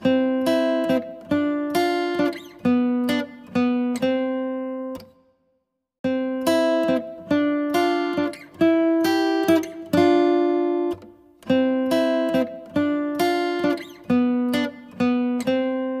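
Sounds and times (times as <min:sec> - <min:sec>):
acoustic guitar plucked chords: 0:00.0 - 0:05.2, 0:06.0 - 0:16.0.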